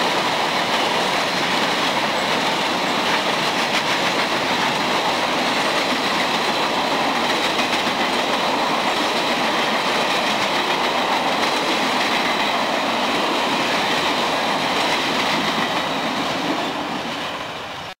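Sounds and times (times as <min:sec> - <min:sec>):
freight train wheels clattering: 0:00.0 - 0:17.9.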